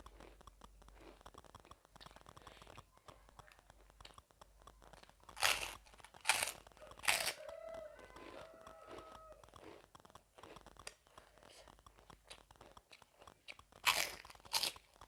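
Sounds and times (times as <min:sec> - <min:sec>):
crunching and chewing: 0:00.0 - 0:15.0.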